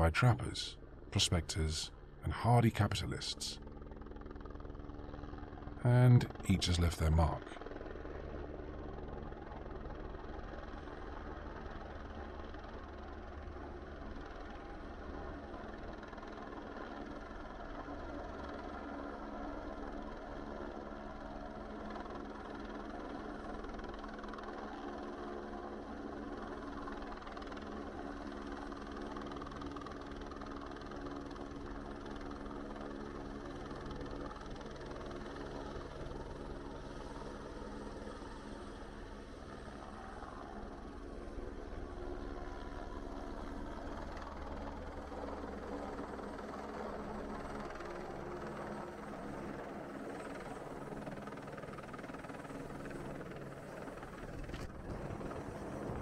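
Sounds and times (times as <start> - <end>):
steady mechanical drone: 0.0 - 19.0, 19.6 - 56.0.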